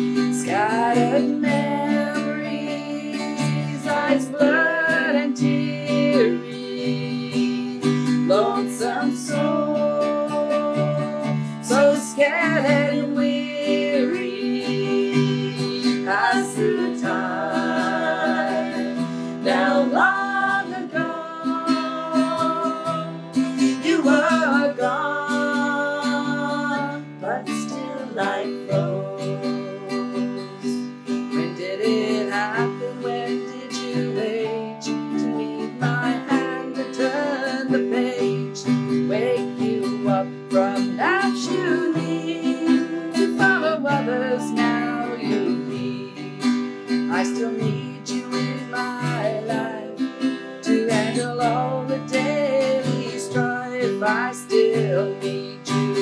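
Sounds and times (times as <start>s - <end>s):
acoustic guitars: 0.0s - 56.0s
women singing: 0.0s - 56.0s.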